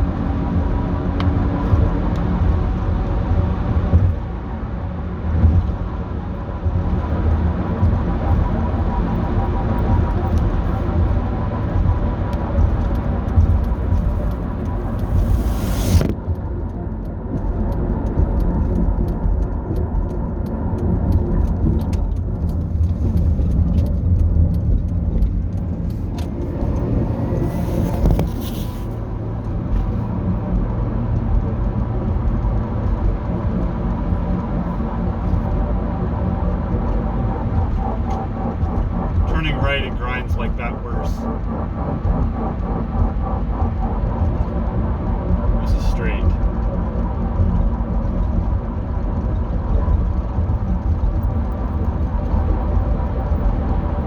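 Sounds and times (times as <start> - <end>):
vehicle rumble with grinding whine: 0.0 - 54.0.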